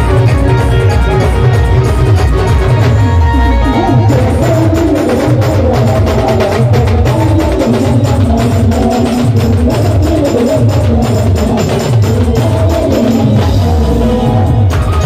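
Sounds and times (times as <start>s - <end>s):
heavy repeating bass line: 0.0s - 15.0s
melody through loudspeakers: 0.0s - 15.0s
street band drums: 0.0s - 15.0s.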